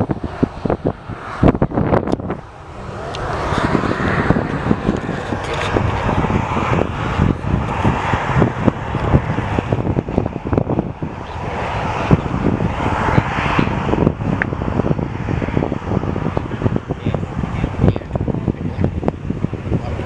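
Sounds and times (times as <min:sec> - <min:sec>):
jet engine roar: 0:00.0 - 0:20.0
wind buffeting microphone: 0:00.0 - 0:20.0.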